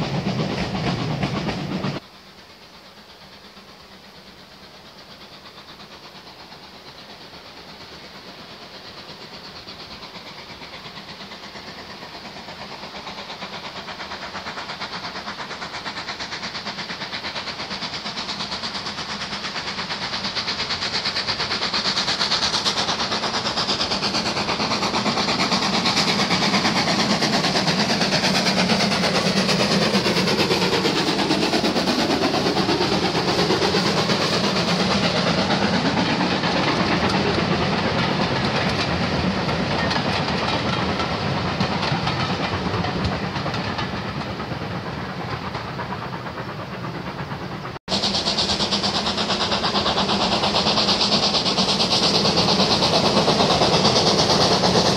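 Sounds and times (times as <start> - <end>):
steam locomotive hauling train: 0.0 - 54.9.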